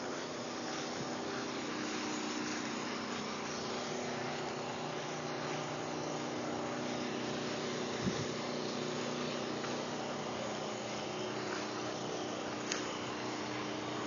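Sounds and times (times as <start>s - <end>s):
constant hiss: 0.0s - 14.0s.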